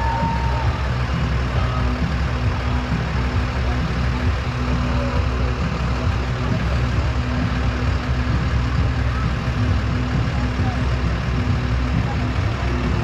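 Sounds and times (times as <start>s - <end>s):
large vehicle engine idling: 0.0s - 13.0s.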